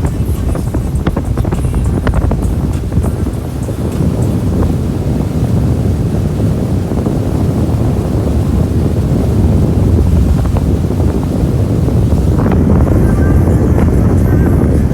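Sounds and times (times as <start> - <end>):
boat engine drone: 0.0 - 14.9
water rushing past hull: 0.0 - 14.9
wind buffeting microphone: 0.0 - 14.9.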